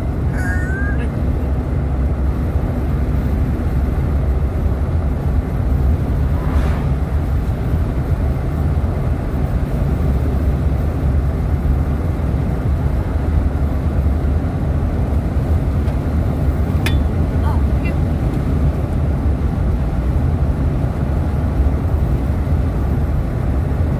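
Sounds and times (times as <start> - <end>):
car cabin road and engine rumble: 0.0 - 23.9.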